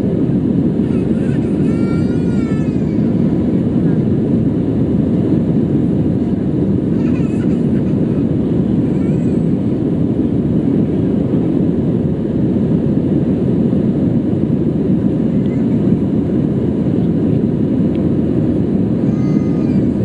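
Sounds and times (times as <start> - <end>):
jet engines roaring in cabin: 0.0 - 20.0.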